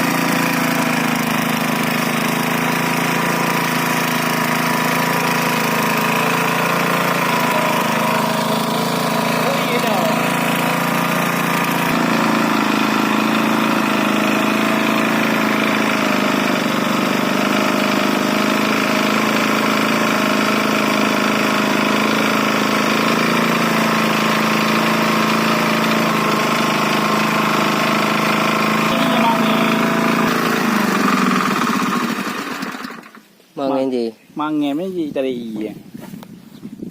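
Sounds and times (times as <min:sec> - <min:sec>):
water pump motor humming: 0:00.0 - 0:33.4.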